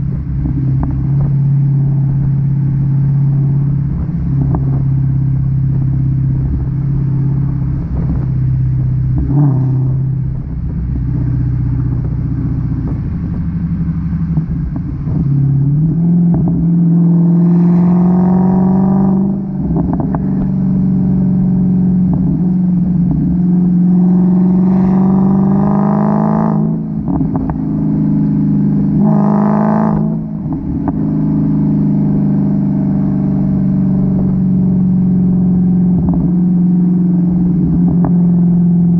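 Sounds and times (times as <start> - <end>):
car engine revving: 0.0 - 38.9
exhaust crackling and popping: 0.0 - 38.9.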